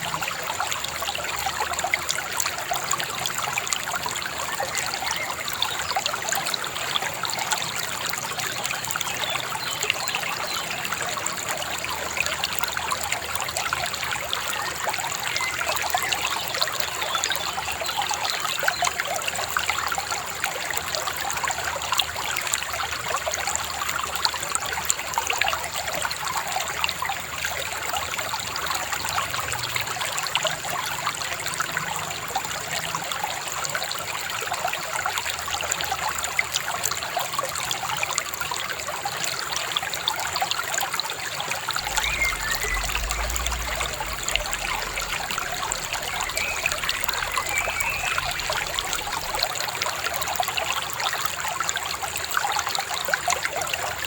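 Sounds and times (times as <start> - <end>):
river babbling over stones: 0.0 - 54.0.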